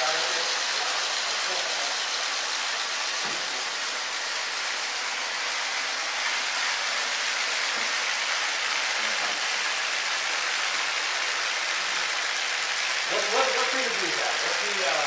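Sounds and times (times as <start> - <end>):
water streams splashing on tiles: 0.0 - 15.0.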